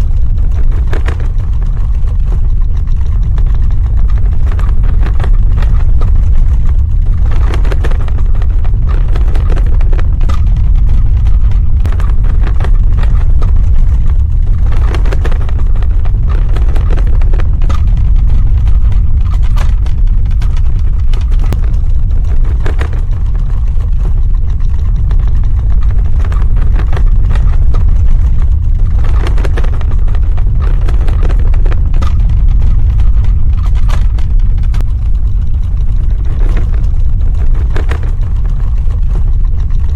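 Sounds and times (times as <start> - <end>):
cracks and rattles: 0.0 - 39.9
earthquake deep rumble: 0.0 - 39.9.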